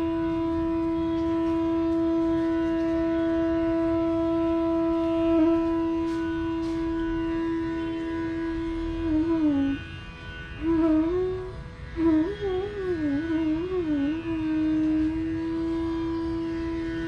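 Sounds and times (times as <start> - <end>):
bamboo flute long note: 0.0 - 17.0.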